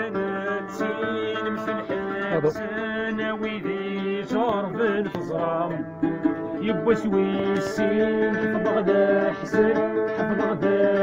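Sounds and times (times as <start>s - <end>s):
person singing: 0.0s - 11.0s
plucked string instrument: 0.0s - 11.0s.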